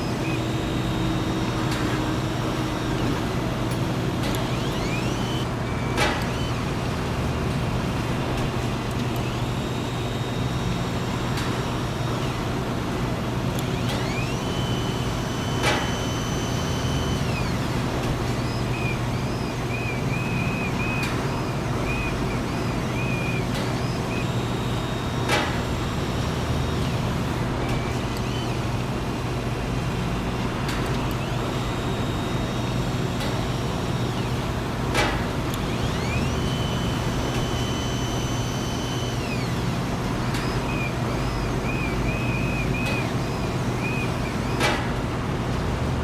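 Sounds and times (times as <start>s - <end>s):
sharp metallic clicks: 0.0s - 6.6s, 8.8s - 12.6s, 13.5s - 28.7s, 30.7s - 45.0s
factory machinery humming: 0.0s - 46.0s
motor whine: 0.0s - 46.0s.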